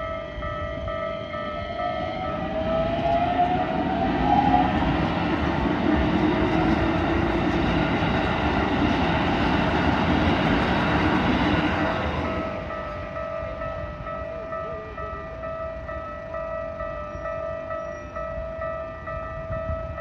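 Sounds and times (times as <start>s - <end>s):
crossing warning bell ringing: 0.0s - 20.0s
train passing: 0.0s - 20.0s.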